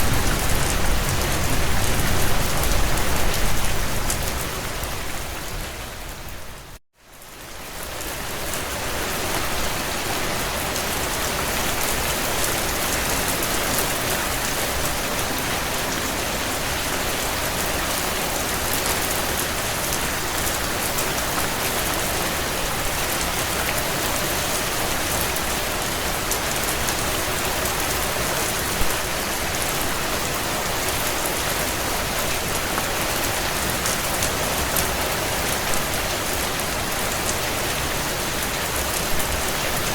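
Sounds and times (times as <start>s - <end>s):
heavy rain pattering: 0.0s - 6.8s, 7.7s - 39.9s.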